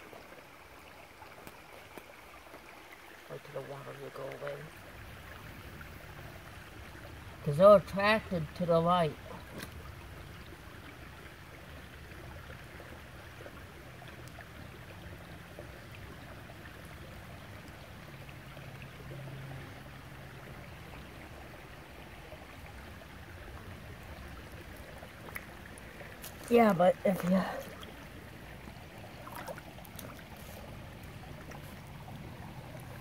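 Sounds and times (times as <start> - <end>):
creek water running over rocks: 0.0 - 33.0.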